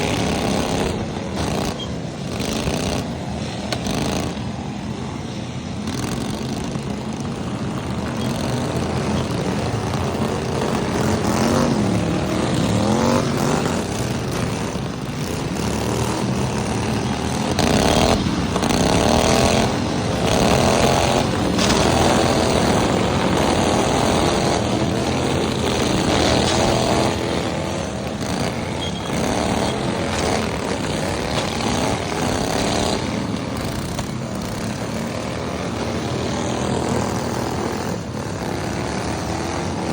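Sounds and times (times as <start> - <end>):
lawn mower engines revving: 0.0 - 39.9.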